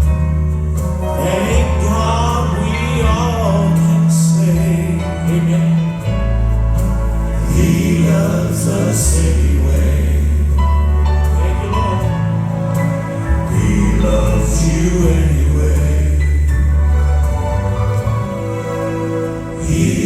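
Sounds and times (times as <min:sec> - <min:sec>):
deep bass notes: 0:00.0 - 0:20.0
male quartet singing in harmony: 0:01.0 - 0:20.0.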